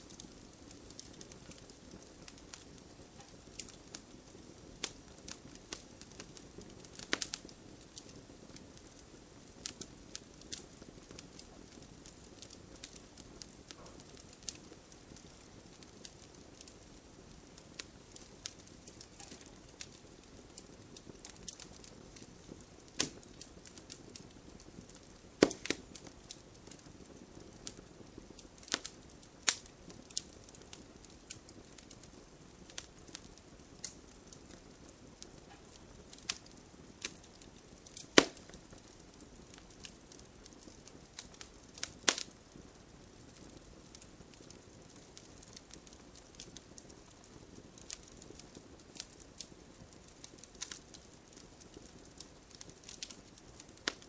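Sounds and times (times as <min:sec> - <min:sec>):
wood bonfire crackling: 0:00.0 - 0:54.0.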